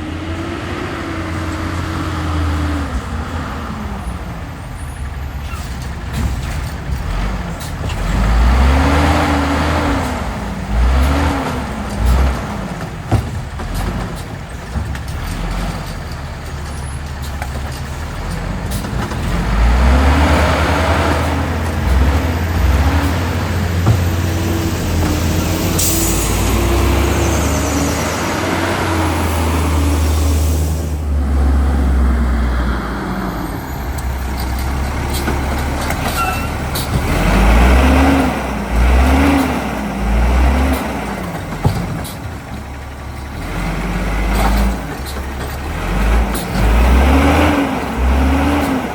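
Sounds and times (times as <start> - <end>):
garbage truck diesel engine accelerating: 0.0 - 48.9.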